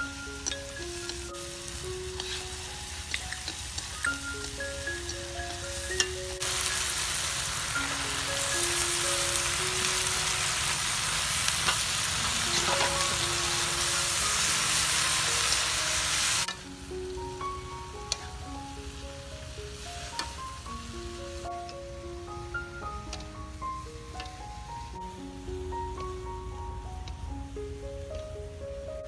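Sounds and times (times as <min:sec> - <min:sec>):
greens sizzling in a wok: 0:00.0 - 0:29.0
light melody: 0:00.0 - 0:29.0.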